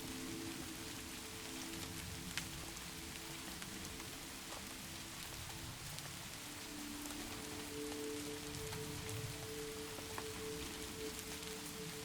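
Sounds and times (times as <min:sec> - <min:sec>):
music pad of held notes: 0:00.0 - 0:12.0
rain falling: 0:00.0 - 0:12.0.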